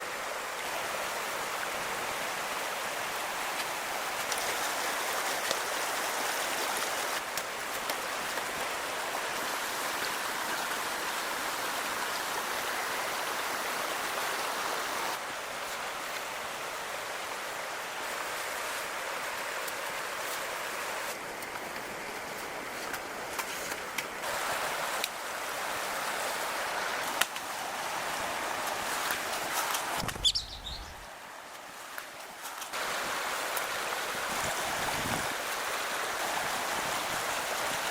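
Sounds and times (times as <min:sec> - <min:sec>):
running water: 0:00.0 - 0:37.9.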